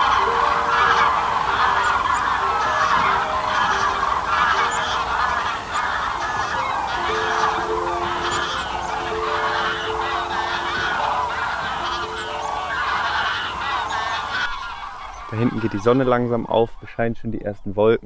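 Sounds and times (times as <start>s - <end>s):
cranes calling: 0.0s - 16.6s.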